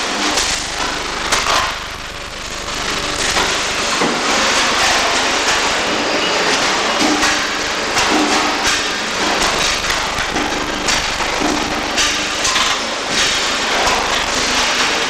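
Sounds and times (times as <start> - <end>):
electric welding arc crackling: 0.0 - 15.0.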